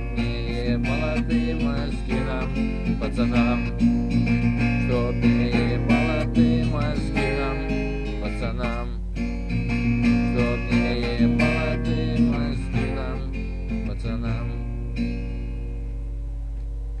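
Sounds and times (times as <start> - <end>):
guitar strummed and picked chords: 0.0 - 17.0
steady low hum: 0.0 - 17.0.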